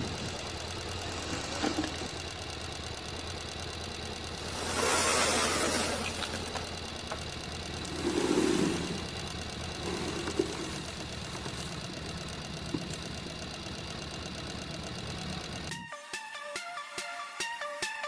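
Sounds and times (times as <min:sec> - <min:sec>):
engine-like idling drone: 0:00.0 - 0:18.0.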